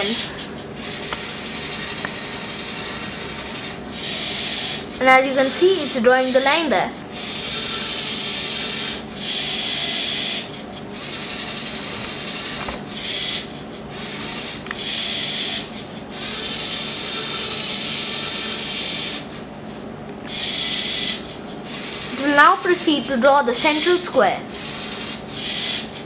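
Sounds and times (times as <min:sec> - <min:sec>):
servo motors and gears whirring: 0:00.0 - 0:19.3, 0:20.3 - 0:26.0.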